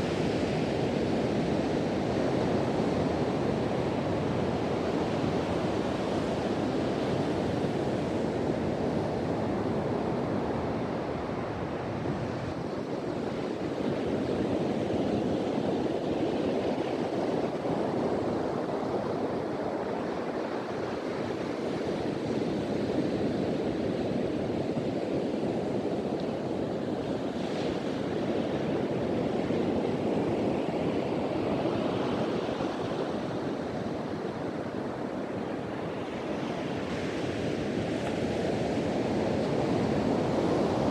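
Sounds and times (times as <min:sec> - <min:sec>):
ocean surf washing onto beach: 0:00.0 - 0:40.9
wind noise on microphone: 0:00.0 - 0:40.9.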